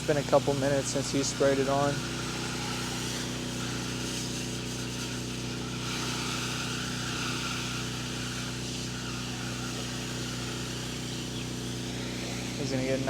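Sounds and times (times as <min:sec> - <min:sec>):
small engine running: 0:00.0 - 0:13.0
spray hissing: 0:00.0 - 0:13.0.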